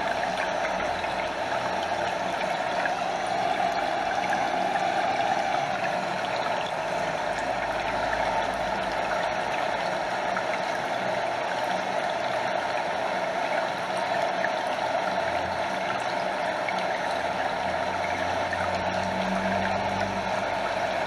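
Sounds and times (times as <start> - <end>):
water splashing over small waterfall: 0.0 - 21.0.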